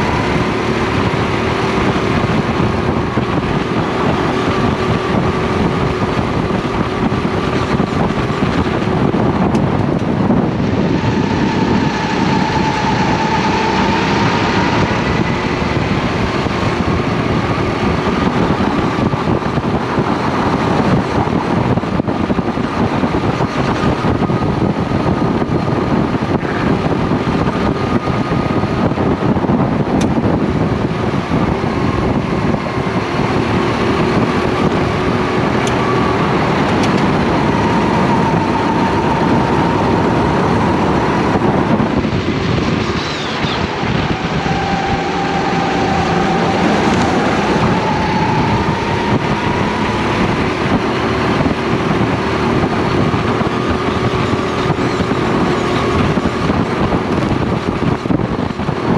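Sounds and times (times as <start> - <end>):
kart engine running hard: 0.0 - 58.9
second kart engine nearby: 0.0 - 58.9.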